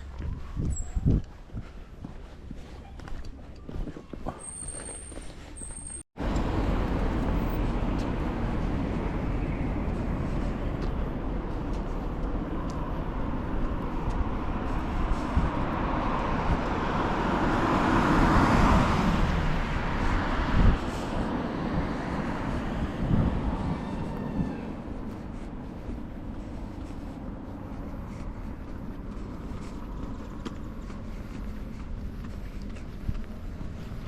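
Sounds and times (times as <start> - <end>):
road traffic noise: 0.0 - 34.0
vehicle passing close: 6.2 - 34.0.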